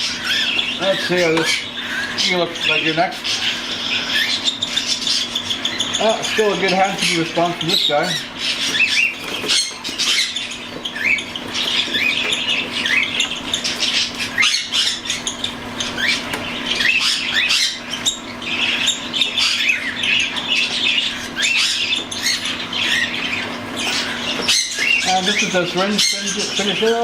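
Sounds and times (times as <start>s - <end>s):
chicks raspy begging calls: 0.0s - 27.0s
steady low hum: 0.0s - 27.0s.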